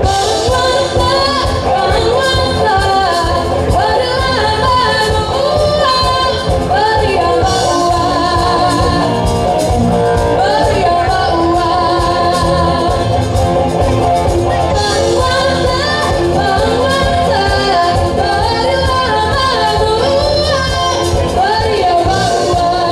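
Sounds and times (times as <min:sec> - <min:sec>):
drum kit steady beat: 0:00.0 - 0:22.9
electric bass guitar: 0:00.0 - 0:22.9
person singing into microphone: 0:00.0 - 0:22.9.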